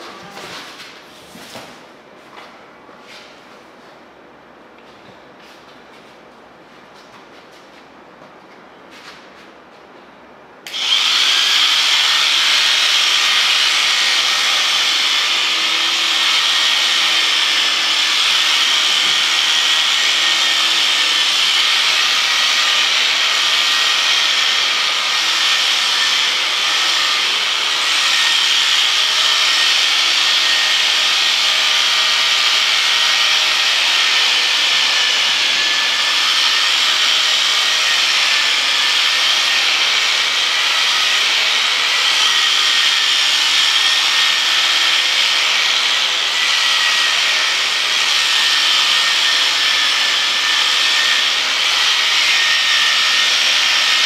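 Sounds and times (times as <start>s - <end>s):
electric sheep shears buzzing: 10.6s - 54.0s.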